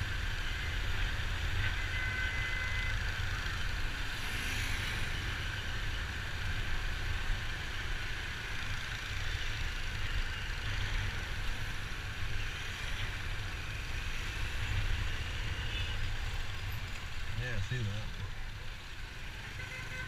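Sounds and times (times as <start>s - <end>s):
engine and road rumble: 0.0s - 20.0s
wind and traffic hiss: 0.0s - 20.0s.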